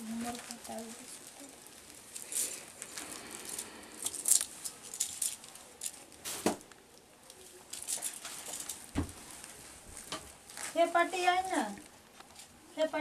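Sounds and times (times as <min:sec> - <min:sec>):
small objects rustling and clinking: 0:00.0 - 0:12.5.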